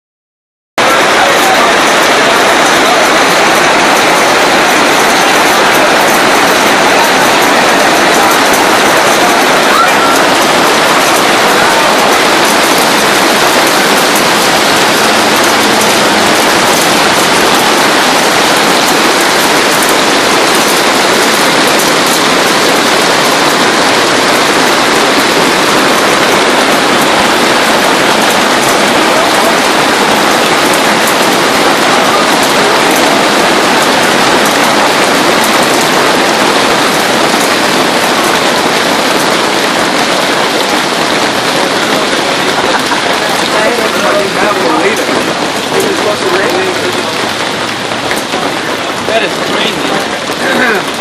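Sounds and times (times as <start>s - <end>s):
heavy hail clattering: 0.8s - 51.0s.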